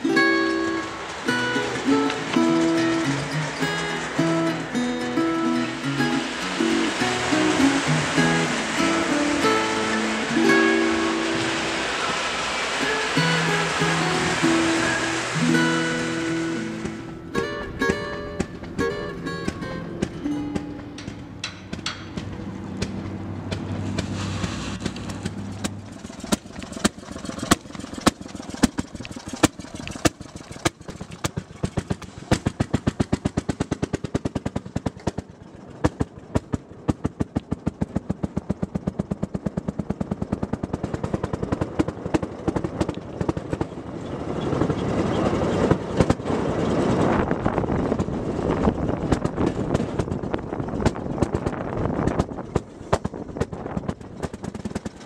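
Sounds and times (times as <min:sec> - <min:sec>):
rail car rumbling along rails: 0:00.0 - 0:55.0
small engine popping: 0:00.0 - 0:55.0.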